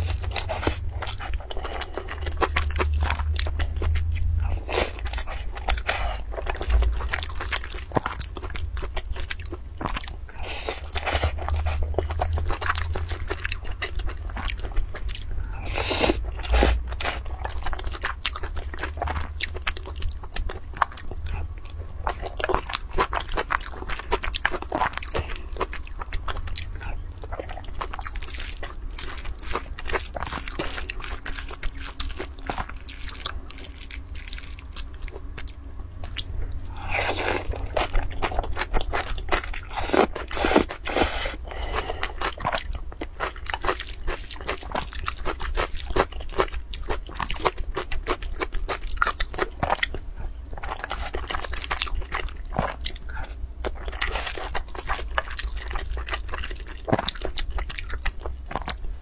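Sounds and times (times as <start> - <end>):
wet chewing mouth sounds: 0.0 - 58.9
steady low rumble: 0.0 - 59.0.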